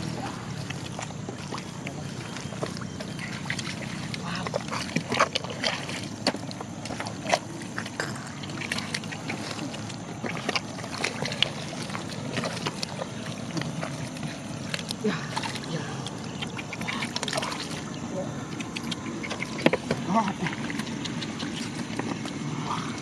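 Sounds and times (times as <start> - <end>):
low steady rumble: 0.0 - 23.0
splashing in muddy water: 0.0 - 23.0.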